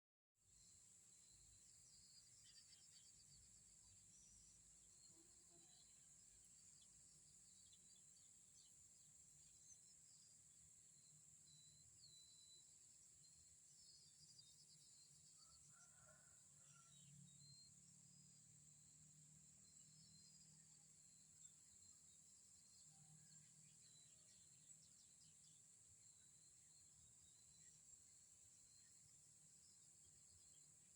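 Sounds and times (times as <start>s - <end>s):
faint bird chirps: 0.4s - 30.9s.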